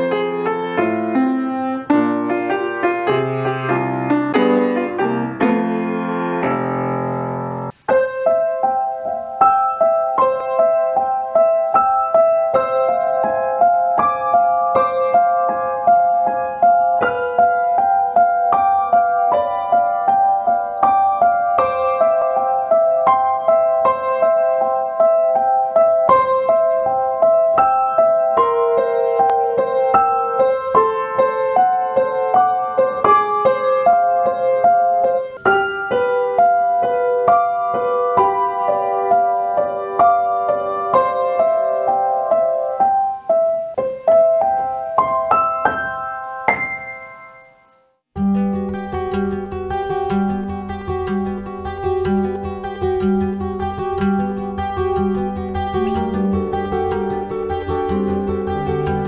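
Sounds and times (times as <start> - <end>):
upright piano melody: 0.0 - 59.0.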